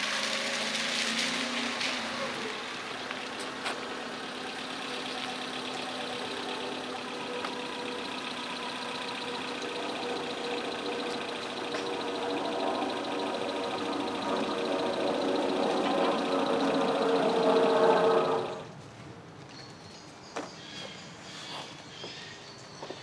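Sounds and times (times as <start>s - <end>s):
car engine idling: 0.0s - 18.7s
car pulling up: 0.0s - 18.7s.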